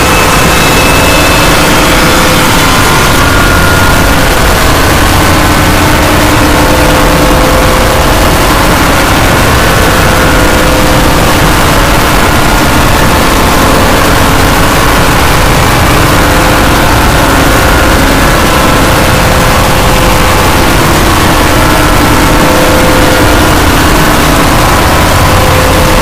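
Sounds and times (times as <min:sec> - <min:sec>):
distorted soundtrack roar: 0:00.0 - 0:26.0.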